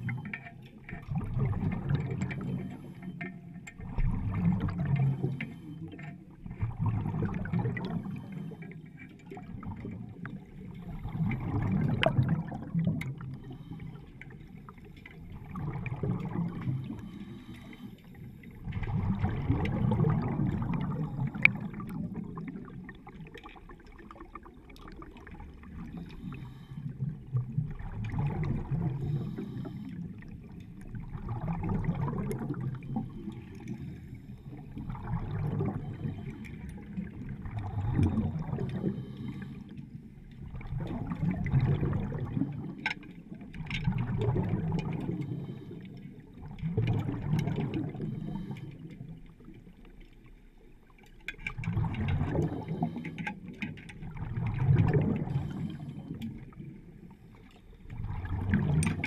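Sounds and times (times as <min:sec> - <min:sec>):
underwater breathing bubbles: 0:00.0 - 0:50.0, 0:50.9 - 0:59.0.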